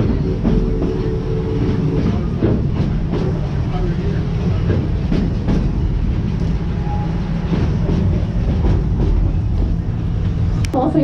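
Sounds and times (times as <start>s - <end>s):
train rumbling: 0.0s - 11.0s
wheels clacking over rail joints: 0.0s - 11.0s.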